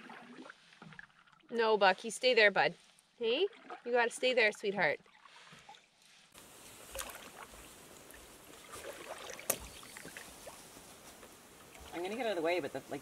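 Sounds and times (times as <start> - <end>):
paddle swishes and drips: 0.0 - 1.6, 2.7 - 12.1.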